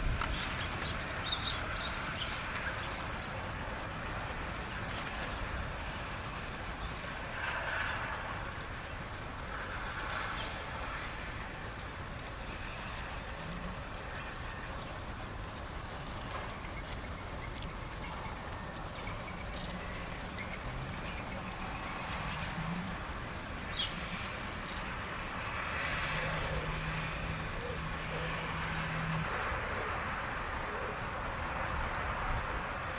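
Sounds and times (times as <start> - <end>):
outdoor background hiss: 0.0 - 32.9
small birds chipping: 0.0 - 32.9.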